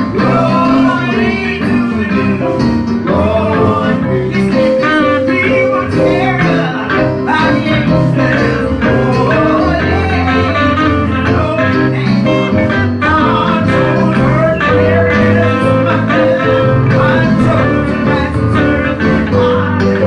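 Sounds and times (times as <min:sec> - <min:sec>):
bass guitar: 0:00.0 - 0:20.0
electric guitar: 0:00.0 - 0:20.0
gospel band music: 0:00.0 - 0:20.0.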